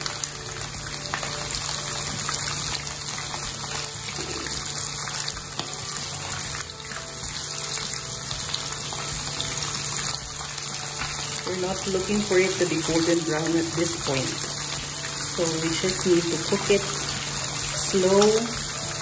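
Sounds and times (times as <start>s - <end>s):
chicken frying in oil: 0.0s - 19.0s.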